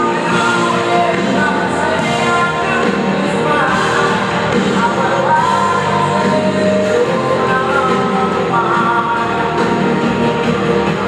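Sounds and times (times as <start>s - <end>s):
live pop-rock band: 0.0s - 11.0s
person singing lead vocal: 0.0s - 11.0s.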